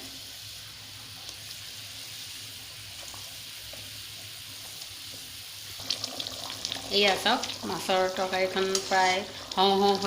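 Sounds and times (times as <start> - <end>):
curry simmering hiss: 0.0 - 10.0.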